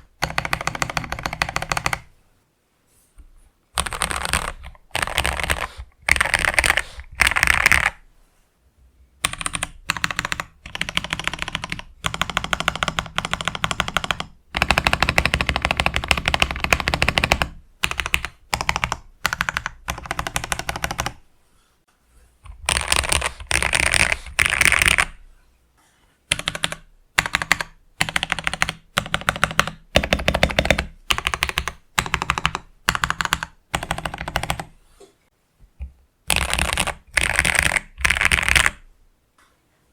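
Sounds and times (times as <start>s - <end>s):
mechanical keyboard typing: 0.0s - 2.1s, 3.8s - 8.0s, 9.2s - 21.2s, 22.4s - 25.2s, 26.3s - 34.7s, 36.3s - 38.9s.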